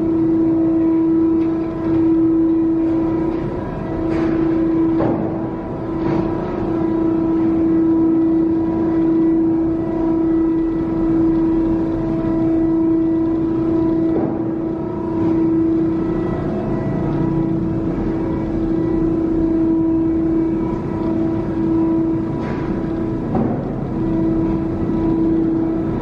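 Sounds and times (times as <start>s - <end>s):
hydraulic power unit whining: 0.0s - 26.0s.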